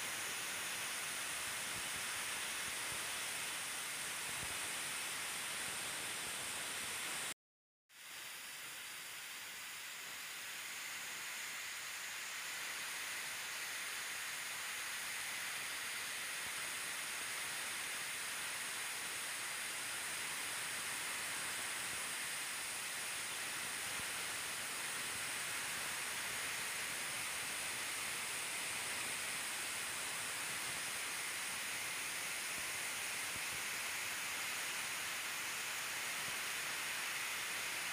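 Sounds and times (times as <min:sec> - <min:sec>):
steady hiss: 0:00.0 - 0:07.3, 0:07.9 - 0:37.9.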